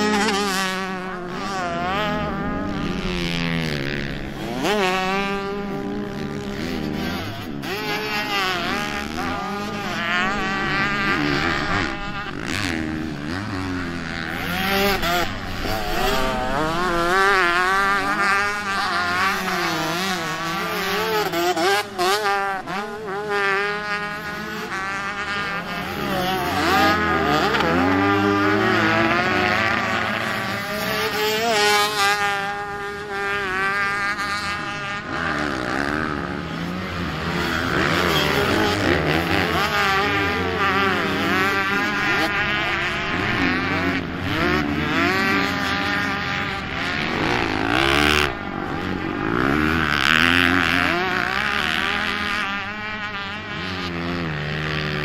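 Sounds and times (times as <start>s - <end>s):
motocross engines revving: 0.0s - 55.0s.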